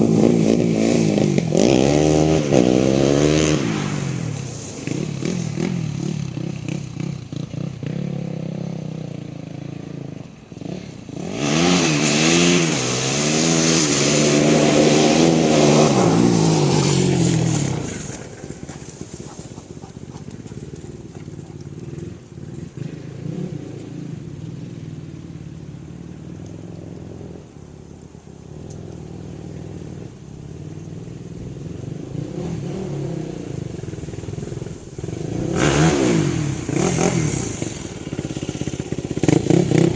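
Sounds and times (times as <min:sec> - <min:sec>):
quad engine revving: 0:00.0 - 0:27.6, 0:28.5 - 0:39.9.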